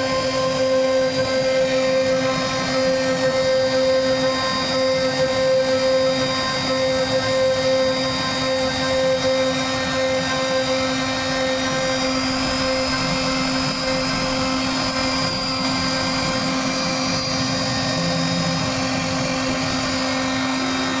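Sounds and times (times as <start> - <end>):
router spindle whine and hum: 0.0 - 21.0.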